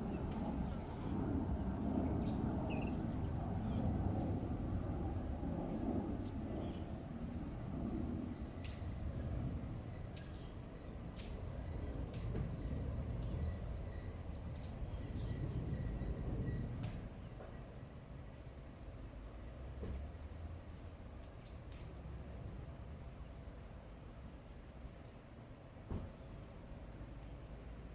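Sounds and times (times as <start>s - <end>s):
songbirds chirping: 0.0s - 19.4s, 24.9s - 27.9s.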